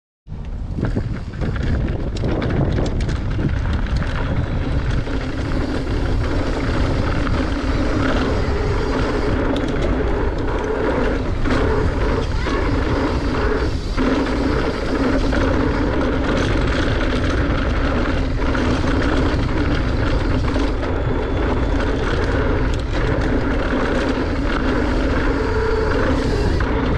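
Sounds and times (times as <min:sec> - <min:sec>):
wind buffeting microphone: 0:00.3 - 0:26.9
bike clattering over rough ground: 0:00.7 - 0:26.9.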